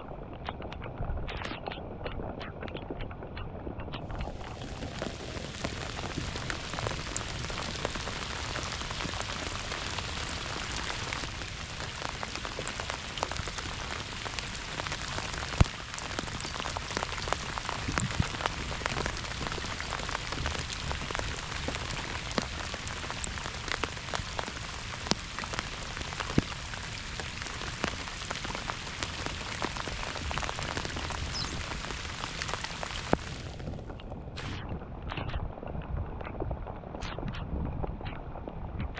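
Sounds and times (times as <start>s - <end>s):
rain falling on water: 0.0s - 38.9s.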